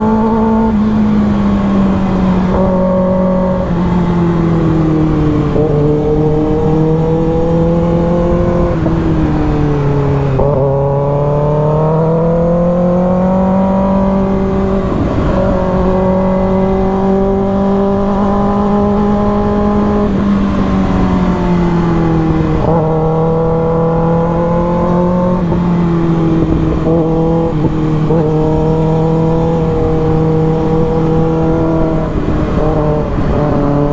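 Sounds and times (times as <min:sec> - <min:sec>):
motorcycle engine at high revs: 0:00.0 - 0:33.9.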